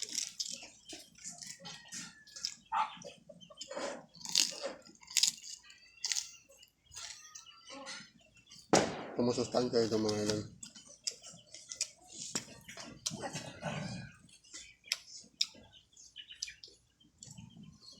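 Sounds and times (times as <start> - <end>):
wet chewing and slurping: 0.0 - 7.5, 9.9 - 17.6.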